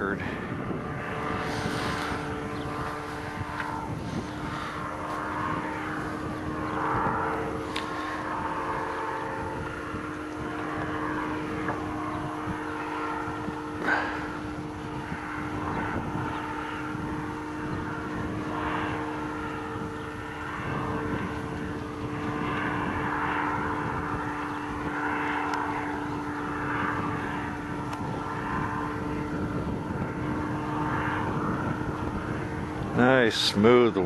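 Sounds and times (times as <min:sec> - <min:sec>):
engine and propeller droning: 0:00.0 - 0:34.0
wind buffeting microphone: 0:00.0 - 0:34.0.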